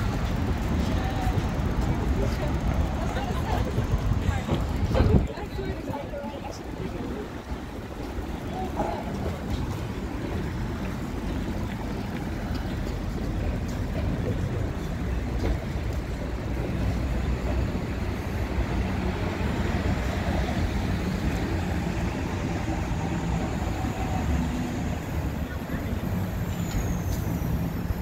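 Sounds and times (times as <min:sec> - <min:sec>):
rumble of passing cars: 0:00.0 - 0:28.0.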